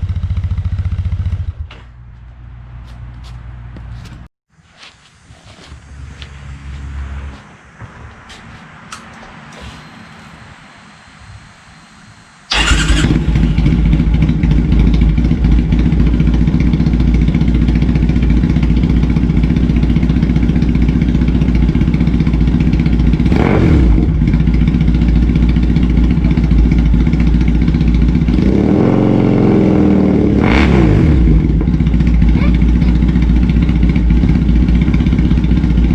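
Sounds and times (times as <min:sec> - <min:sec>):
motorcycle engine idling and revving: 0:00.0 - 0:04.3, 0:05.4 - 0:10.6, 0:11.2 - 0:35.9.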